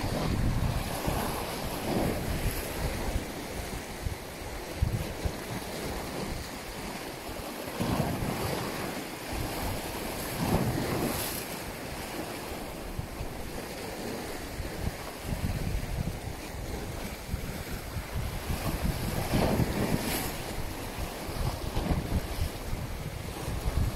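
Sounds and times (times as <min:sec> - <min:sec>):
sea waves: 0:00.0 - 0:23.9
wind buffeting microphone: 0:00.0 - 0:23.9.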